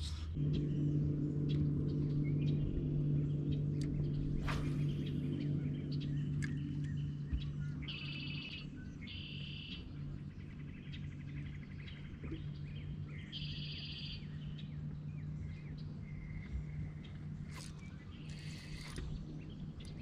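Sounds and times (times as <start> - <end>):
steady low hum: 0.0 - 20.0
birds singing buzzy trills: 0.3 - 20.0.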